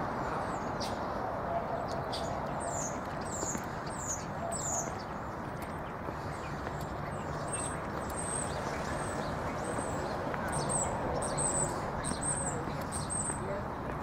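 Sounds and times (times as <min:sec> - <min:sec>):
outdoor background noise: 0:00.0 - 0:14.0
small birds chirping: 0:00.2 - 0:14.0.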